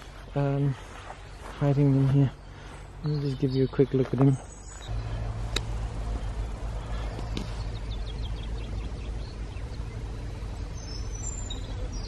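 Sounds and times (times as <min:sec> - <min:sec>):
steady low rumble: 0:00.0 - 0:12.0
faint bird chirps: 0:00.1 - 0:12.0.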